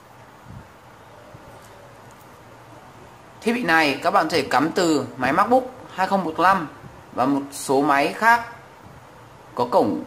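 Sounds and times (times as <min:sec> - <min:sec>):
room hiss: 0:00.0 - 0:10.0.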